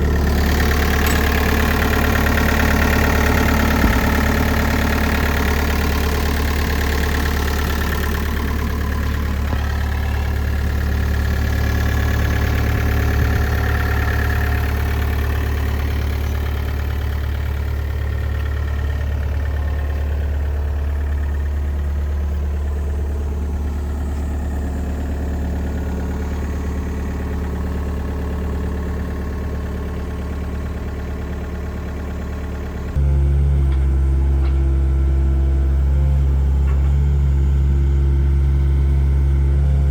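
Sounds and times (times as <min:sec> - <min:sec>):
excavator diesel engine idling: 0:00.0 - 0:39.9.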